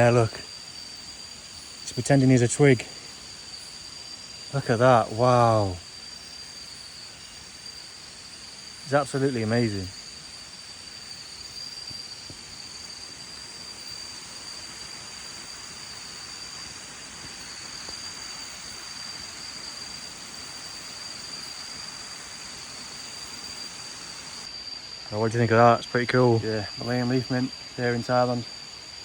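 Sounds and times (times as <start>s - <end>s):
high insect trilling: 0.0s - 29.0s
shrill insect tone: 0.0s - 29.0s
soft hiss: 0.0s - 29.0s.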